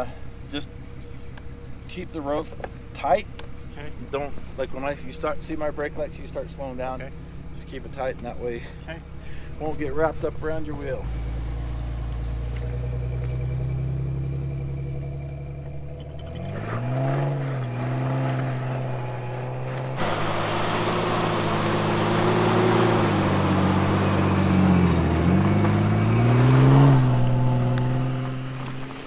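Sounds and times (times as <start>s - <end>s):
vehicle engine revving under load: 0.0s - 29.0s.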